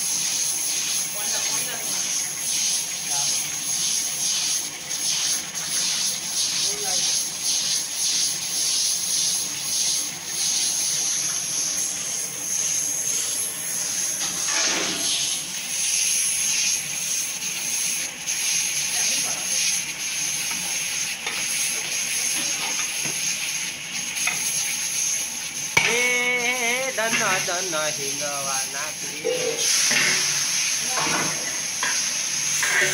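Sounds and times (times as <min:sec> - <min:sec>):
pressure cooker steam hissing: 0:00.0 - 0:32.9.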